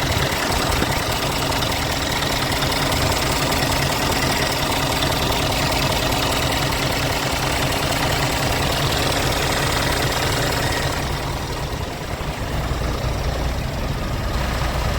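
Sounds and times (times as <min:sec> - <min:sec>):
diesel truck engine idling: 0:00.0 - 0:14.9.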